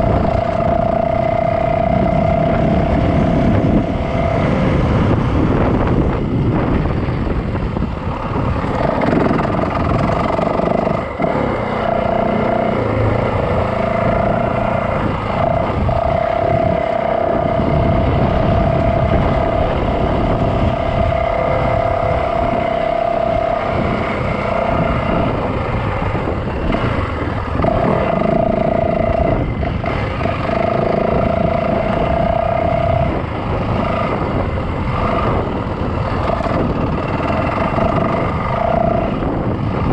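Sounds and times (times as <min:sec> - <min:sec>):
constant rushing noise: 0:00.0 - 0:39.9
dirt bike engine running: 0:00.0 - 0:39.9.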